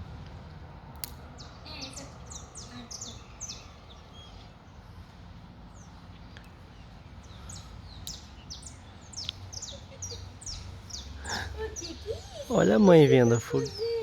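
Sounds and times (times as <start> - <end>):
birds chirping: 1.3 - 14.0.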